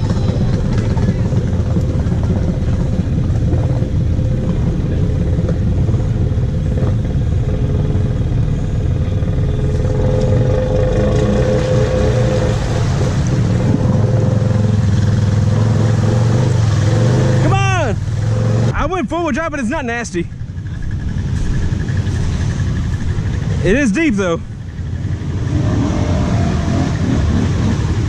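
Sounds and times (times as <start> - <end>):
quad engine running: 0.0 - 28.0
water churning: 0.0 - 28.0.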